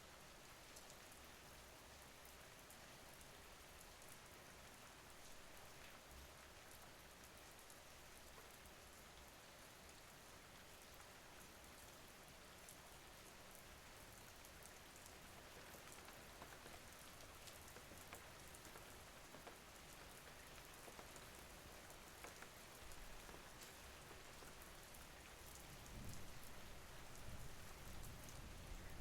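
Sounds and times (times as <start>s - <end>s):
faint rain hiss: 0.0s - 29.0s.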